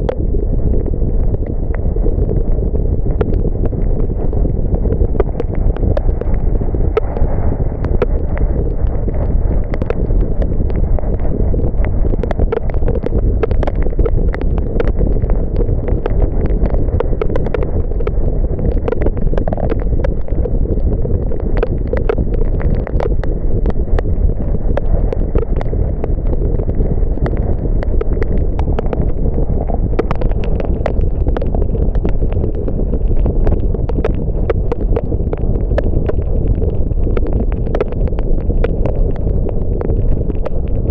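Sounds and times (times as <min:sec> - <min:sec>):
raindrops ticking on car: 0:02.1 - 0:40.9.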